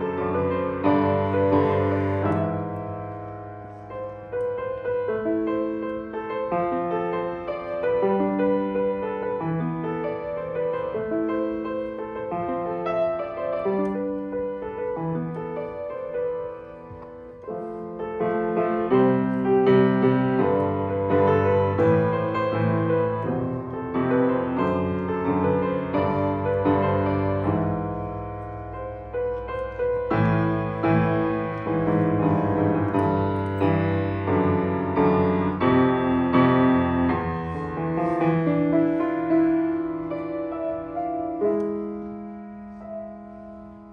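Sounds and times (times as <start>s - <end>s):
solo piano piece: 0.0s - 43.9s.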